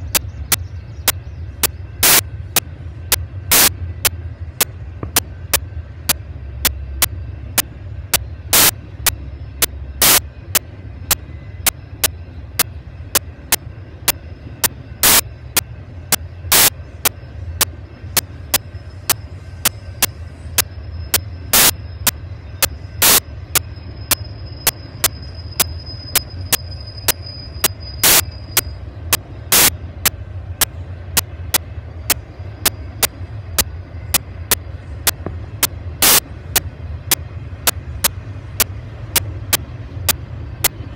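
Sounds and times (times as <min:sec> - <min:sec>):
crossing warning bell dinging: 0:00.0 - 0:40.9
steady low rumble: 0:00.0 - 0:40.9.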